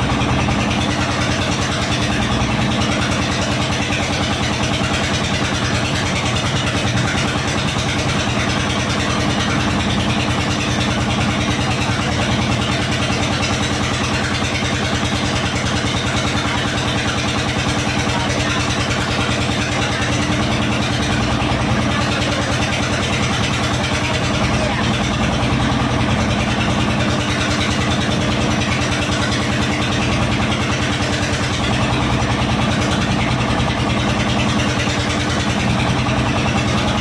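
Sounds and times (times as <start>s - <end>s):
small boat engine running: 0.0s - 37.0s.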